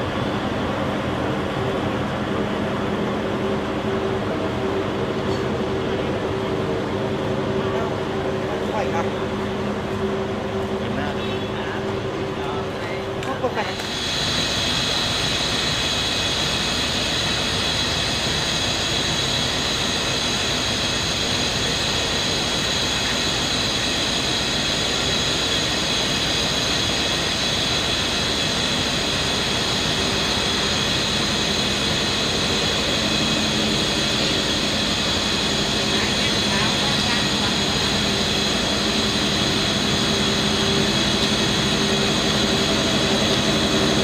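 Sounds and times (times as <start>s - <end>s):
high whine: 0.0s - 44.0s
locomotive engine rumble: 0.0s - 44.0s.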